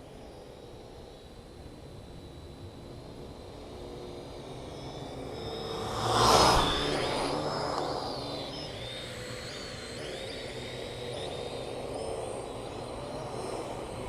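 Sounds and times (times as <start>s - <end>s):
drone rotors whining: 0.0s - 14.0s.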